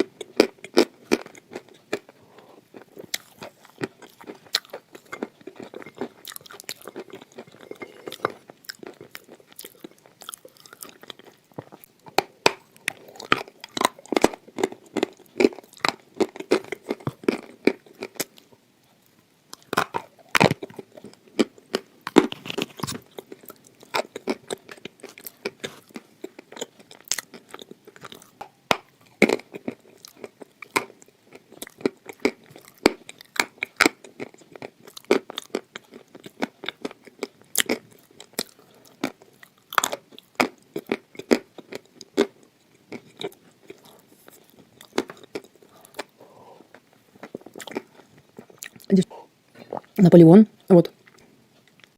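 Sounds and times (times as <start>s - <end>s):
crunching and chewing clay: 0.0s - 50.0s.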